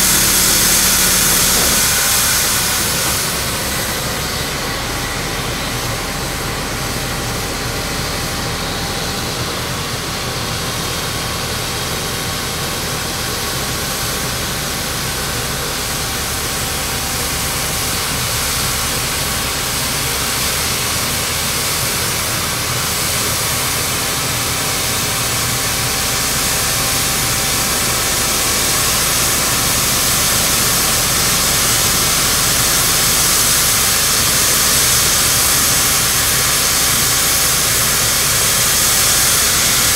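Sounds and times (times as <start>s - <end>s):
excavator engine: 0.0s - 39.9s.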